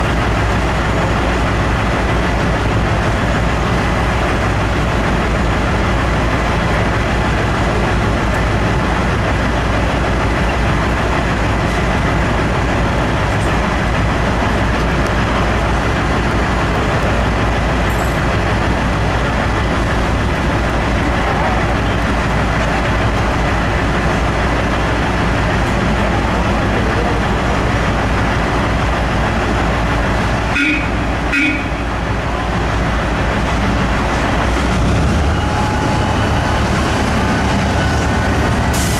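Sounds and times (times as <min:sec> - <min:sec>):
bulldozer diesel engine rumbling: 0:00.0 - 0:38.9.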